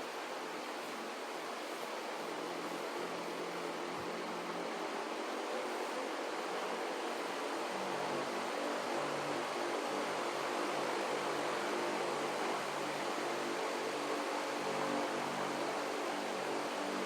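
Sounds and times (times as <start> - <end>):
faint fan motor hum: 0.0 - 17.0.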